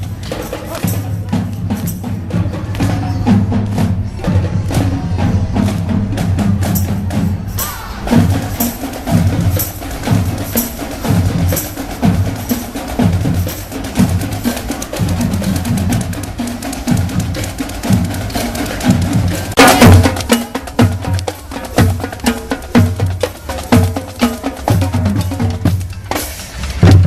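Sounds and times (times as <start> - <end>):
marching drums and percussion: 0.0 - 27.0.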